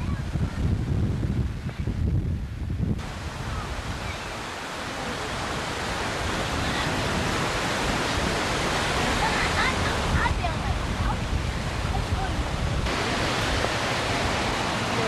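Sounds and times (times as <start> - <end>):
floodwater rushing: 0.0 - 15.0
wind buffeting microphone: 0.0 - 15.0.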